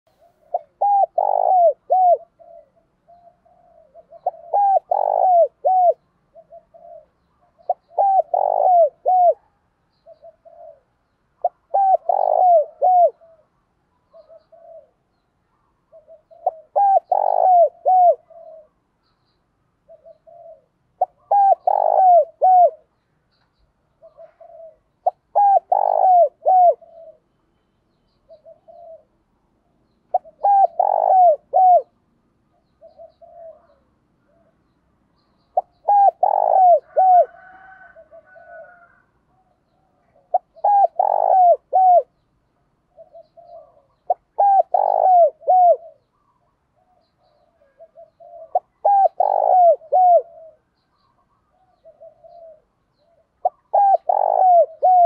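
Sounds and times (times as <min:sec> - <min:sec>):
dove cooing: 0:00.1 - 0:15.0, 0:15.8 - 0:18.8, 0:19.8 - 0:22.9, 0:23.9 - 0:27.3, 0:28.2 - 0:29.2, 0:30.1 - 0:34.6, 0:35.5 - 0:42.2, 0:42.8 - 0:55.0.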